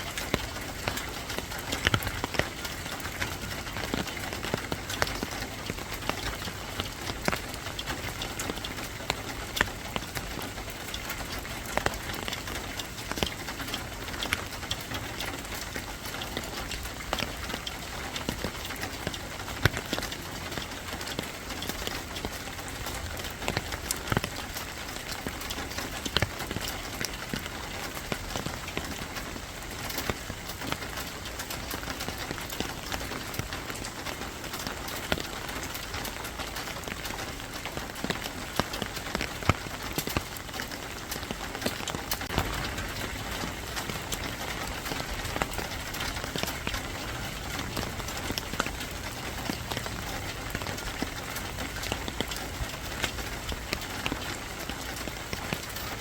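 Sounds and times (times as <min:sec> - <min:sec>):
sharp drip ticks: 0:00.0 - 0:56.0
steady rain patter: 0:00.0 - 0:56.0.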